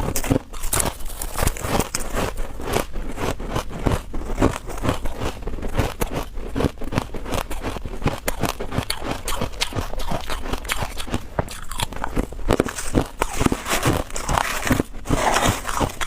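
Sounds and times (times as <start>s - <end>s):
frost crunching when chewed: 0.0s - 16.0s.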